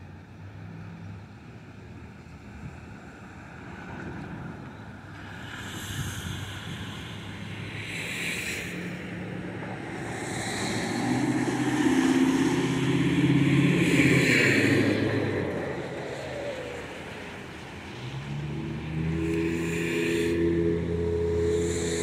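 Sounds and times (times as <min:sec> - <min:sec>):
vehicle engine hum: 0:00.0 - 0:22.0
tyres hissing on wet road: 0:02.4 - 0:22.0.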